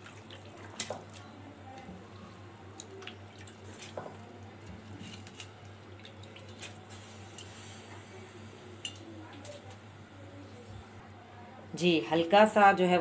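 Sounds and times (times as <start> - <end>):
water boiling and bubbling: 0.0 - 11.0
low steady hum: 0.0 - 13.0.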